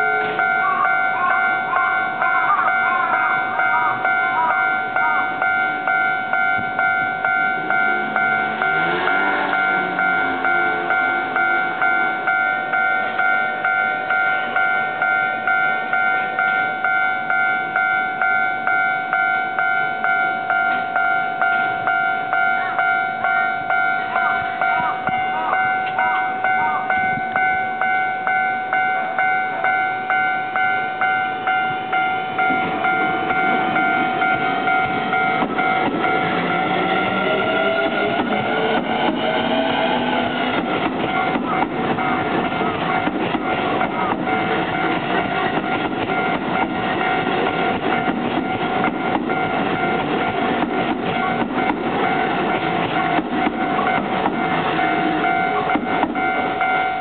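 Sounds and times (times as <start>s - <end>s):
level crossing bell ringing: 0.0s - 57.0s
train running: 0.0s - 57.0s.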